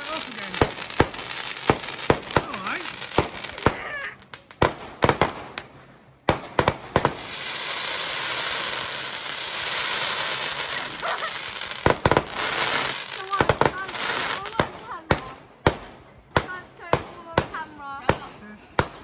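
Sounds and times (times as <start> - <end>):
fireworks hissing: 0.0 - 15.4
fireworks bangs: 0.0 - 19.0.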